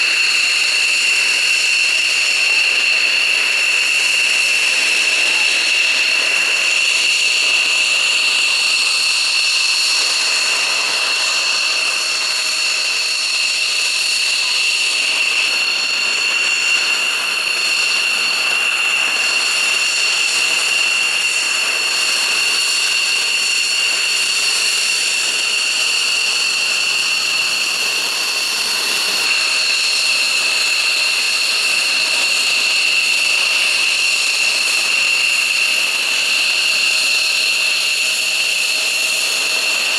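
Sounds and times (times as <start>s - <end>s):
jet engine rushing noise: 0.0s - 39.9s
jet engine whine: 0.0s - 39.9s.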